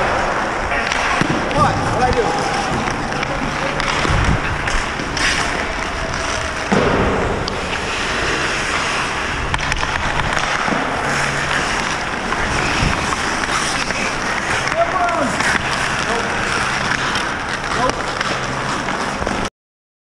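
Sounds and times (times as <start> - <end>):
hockey stick clacks: 0.0 - 19.5
skate blades scraping ice: 0.0 - 19.5.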